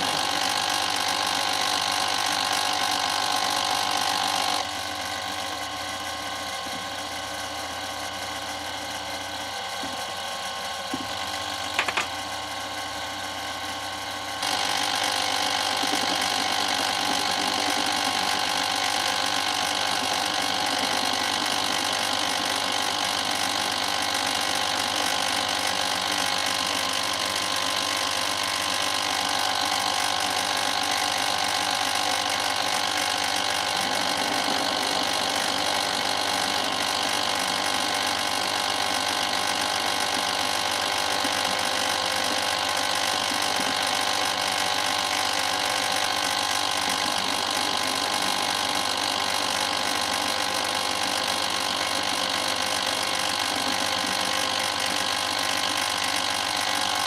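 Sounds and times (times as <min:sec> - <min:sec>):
mini lathe running: 0:00.0 - 0:57.0.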